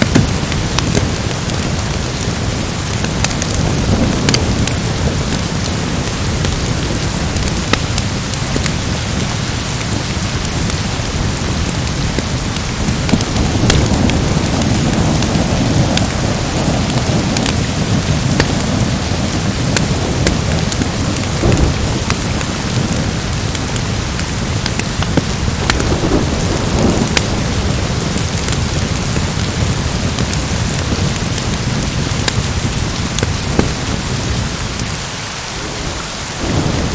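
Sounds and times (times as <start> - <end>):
rumble of thunder: 0.0 - 34.6, 35.6 - 36.9
wood fire crackling: 0.0 - 35.8
heavy rain: 0.0 - 36.9.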